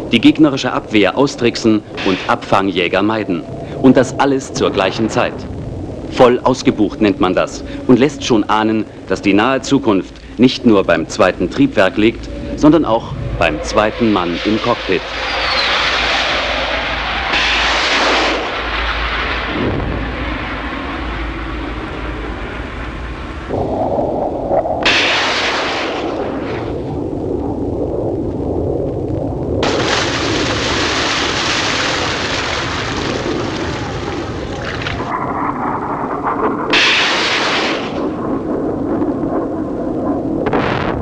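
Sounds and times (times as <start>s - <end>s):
jet engine rushing: 0.0s - 41.0s.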